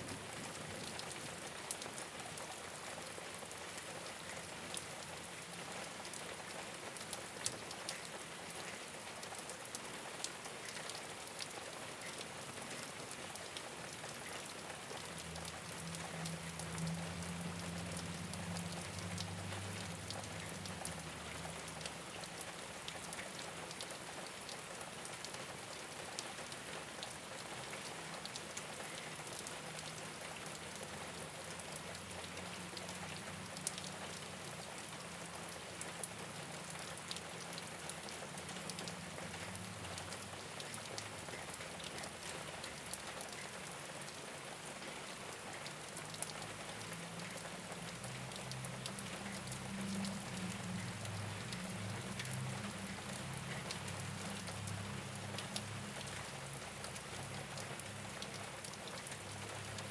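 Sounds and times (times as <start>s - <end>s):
rain on a rooftop: 0.0s - 59.9s.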